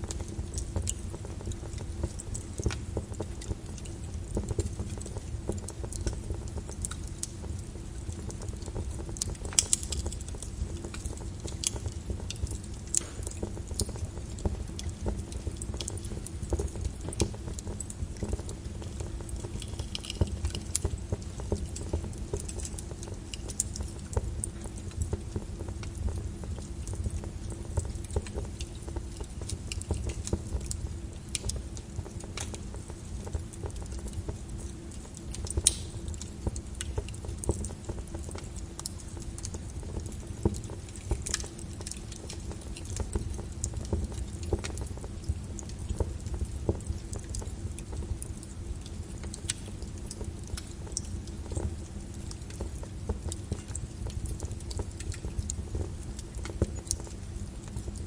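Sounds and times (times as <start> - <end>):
lava crackling and popping: 0.0 - 58.0.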